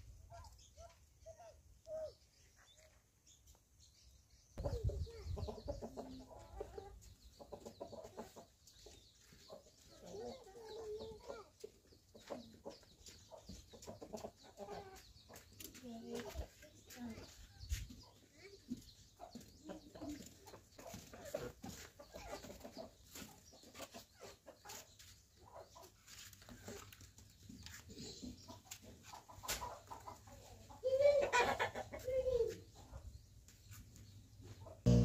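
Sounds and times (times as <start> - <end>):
chickens clucking: 4.6 - 35.0.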